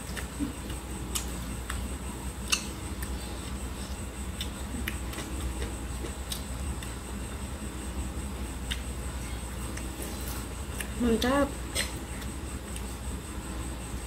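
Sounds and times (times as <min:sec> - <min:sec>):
person chewing and eating: 0:00.0 - 0:11.0, 0:11.6 - 0:14.0
steady low hum: 0:00.0 - 0:14.0.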